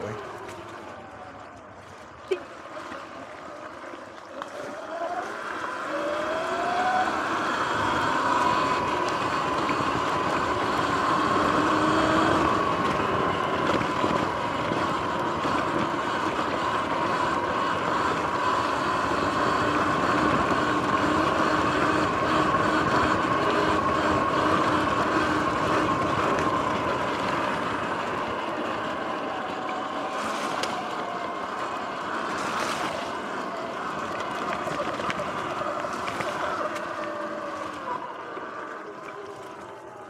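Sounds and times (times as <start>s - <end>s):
electric motor whine: 3.6s - 40.0s
tyres rushing on dirt: 4.6s - 40.0s.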